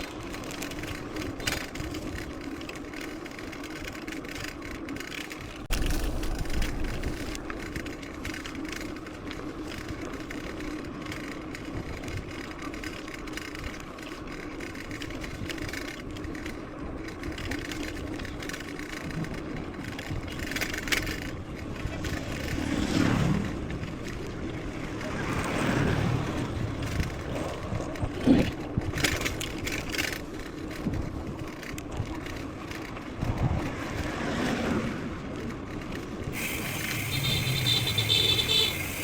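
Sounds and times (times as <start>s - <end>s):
bike rattling and knocking: 0.0s - 34.4s, 35.1s - 39.0s
bike tyres humming: 0.0s - 39.0s.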